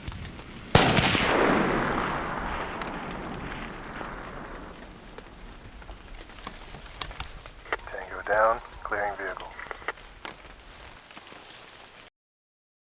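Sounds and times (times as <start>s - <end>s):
rifle shot with rolling echo: 0.0s - 10.9s.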